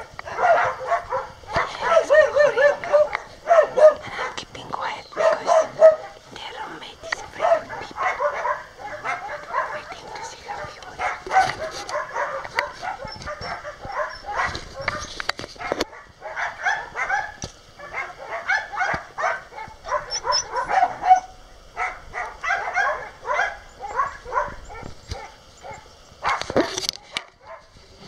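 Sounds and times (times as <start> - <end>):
puppies yelping: 0.0 - 4.2, 5.1 - 6.3, 7.1 - 27.6.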